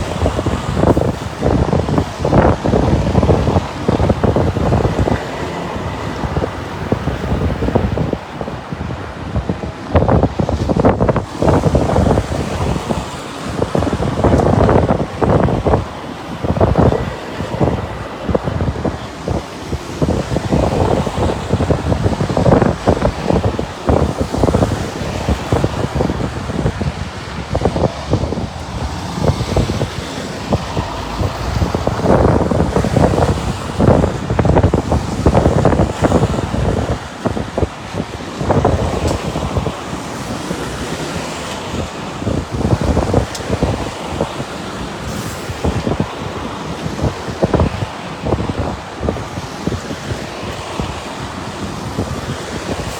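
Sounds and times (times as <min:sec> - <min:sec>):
lorries and cars driving past: 0:00.0 - 0:52.9
wind buffeting microphone: 0:00.0 - 0:52.9.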